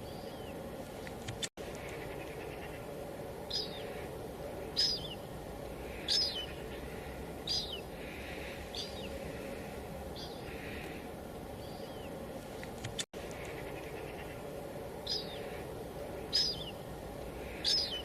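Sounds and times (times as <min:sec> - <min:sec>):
light rain hissing: 0:00.0 - 0:18.0.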